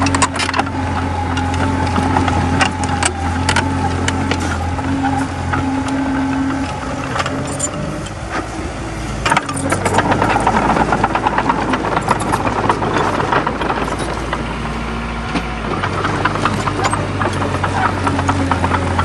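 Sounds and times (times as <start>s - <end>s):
metallic clatter of steel tracks: 0.0s - 8.6s, 9.2s - 19.0s
bulldozer diesel engine running: 0.0s - 19.0s.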